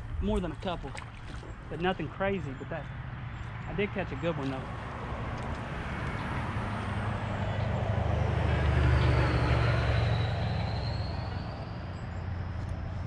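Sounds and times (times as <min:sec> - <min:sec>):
deep engine rumble passing by: 0:00.0 - 0:13.0.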